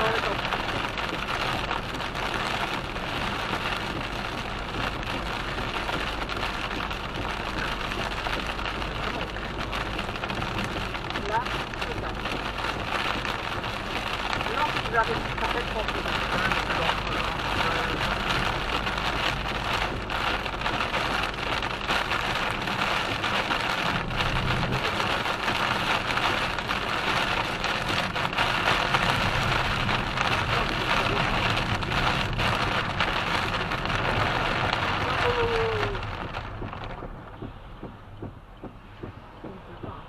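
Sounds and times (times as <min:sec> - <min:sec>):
heavy rain drumming on a car: 0:00.0 - 0:40.0
low road rumble: 0:00.0 - 0:40.0.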